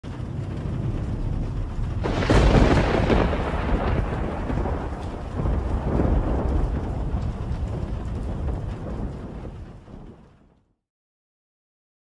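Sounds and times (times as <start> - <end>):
thunder rumbling: 0.0 - 10.7
rain: 0.0 - 10.8
loud thunder crack: 0.1 - 10.5.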